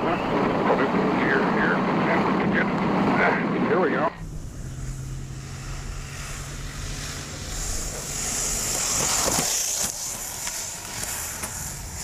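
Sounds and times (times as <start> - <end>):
vehicle driving rushing noise: 0.0 - 12.0.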